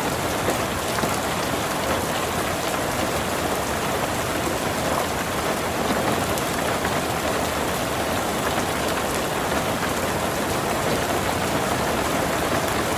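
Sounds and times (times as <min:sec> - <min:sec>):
heavy rain: 0:00.0 - 0:12.9.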